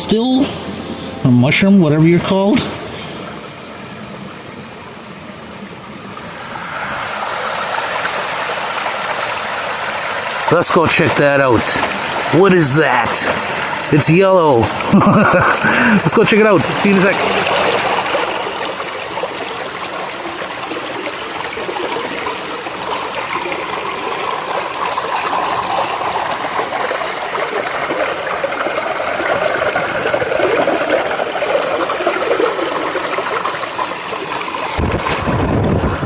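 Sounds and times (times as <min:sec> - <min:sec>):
stream water splashing: 0:00.0 - 0:36.0.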